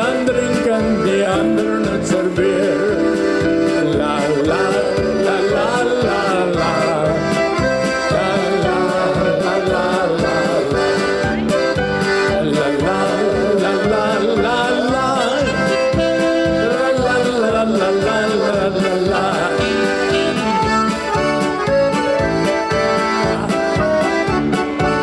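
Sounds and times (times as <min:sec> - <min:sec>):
accordion melody: 0:00.0 - 0:25.0
electric keyboard accompaniment: 0:00.0 - 0:25.0.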